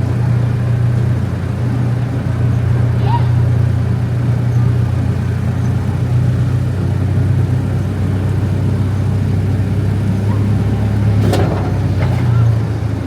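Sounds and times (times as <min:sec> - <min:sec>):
train locomotive and rolling wheels: 0:00.0 - 0:13.0.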